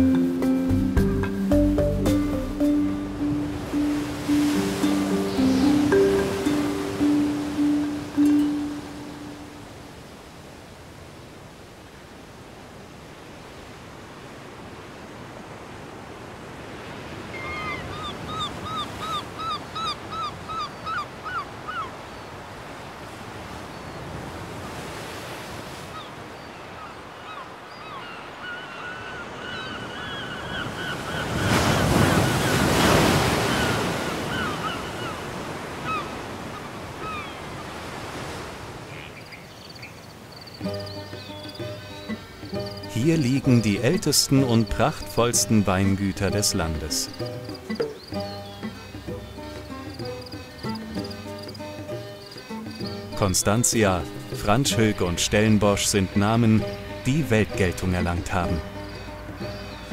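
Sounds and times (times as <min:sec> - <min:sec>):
ocean surf: 0:00.0 - 0:59.9
wind: 0:00.0 - 0:59.9
birds calling: 0:01.4 - 0:09.7, 0:17.2 - 0:59.9.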